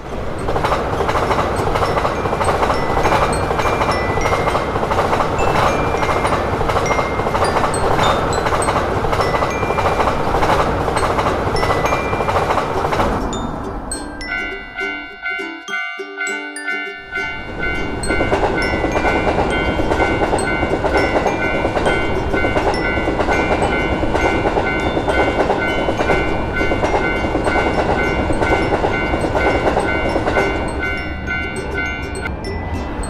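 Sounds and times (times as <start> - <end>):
train wheels rumbling on track: 0.0 - 15.6, 17.0 - 33.0
railroad crossing bell ringing: 0.0 - 33.0.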